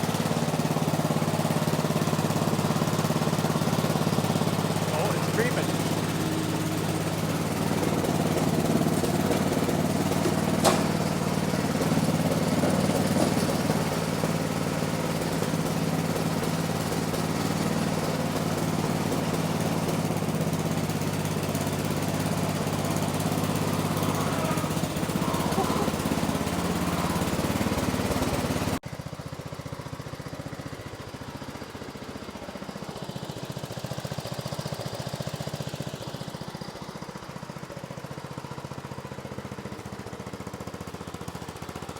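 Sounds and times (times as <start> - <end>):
garden tractor engine running: 0.0 - 41.9.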